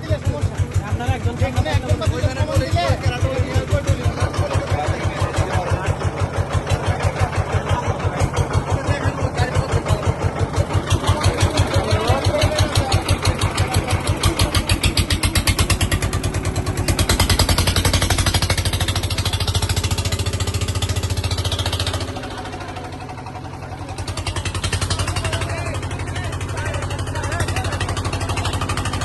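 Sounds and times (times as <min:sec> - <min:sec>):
boat engine chugging: 0:00.0 - 0:29.0.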